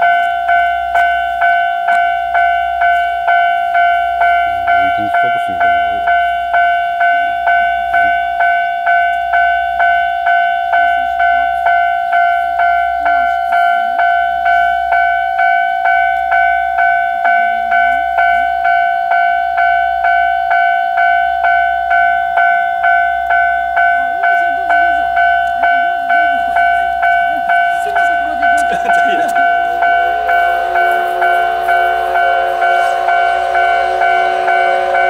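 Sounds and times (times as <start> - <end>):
level crossing bell ringing: 0.0 - 35.0.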